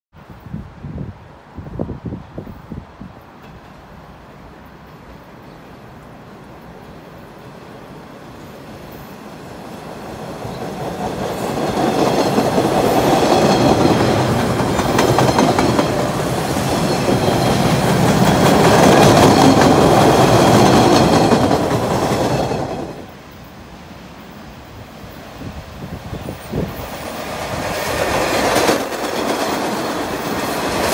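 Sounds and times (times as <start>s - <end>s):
subway train passing: 0.2s - 30.9s.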